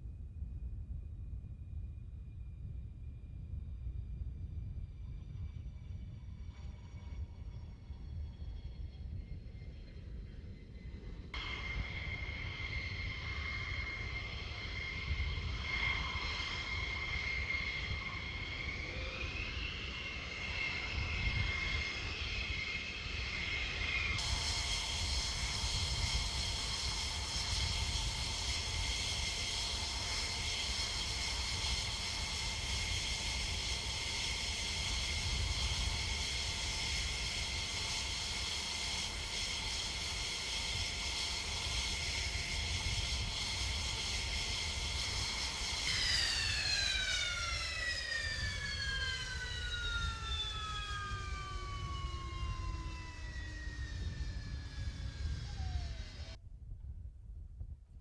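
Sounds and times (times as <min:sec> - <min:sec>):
low rumble: 0:00.0 - 0:58.0
jet engine whining: 0:06.3 - 0:56.4.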